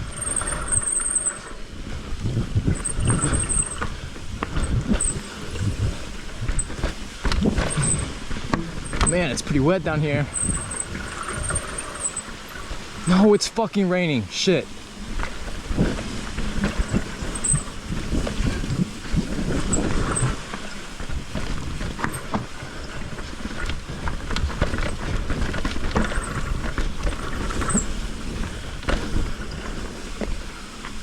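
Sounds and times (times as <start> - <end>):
mountain bike rattling on trail: 0.0 - 31.0.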